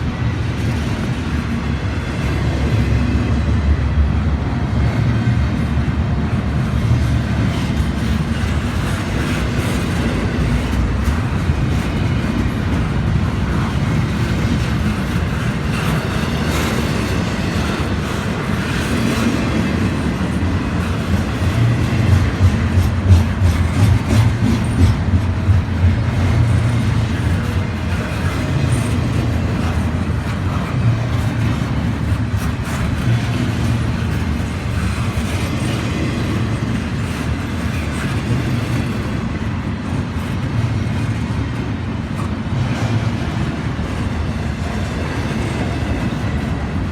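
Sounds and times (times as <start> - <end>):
train cars rumbling past: 0.0 - 46.9
train wheels clacking on rails: 0.0 - 46.9.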